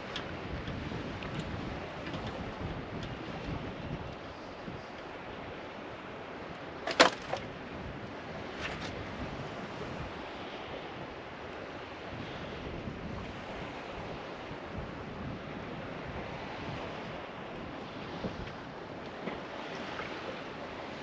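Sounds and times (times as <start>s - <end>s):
sea washing against boat hull: 0.0s - 21.0s
wind on microphone: 0.0s - 21.0s.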